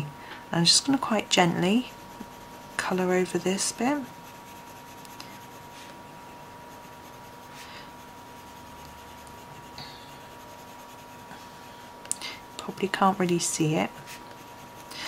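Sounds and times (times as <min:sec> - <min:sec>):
pencil scratching on paper: 0:00.8 - 0:11.8, 0:13.0 - 0:15.0.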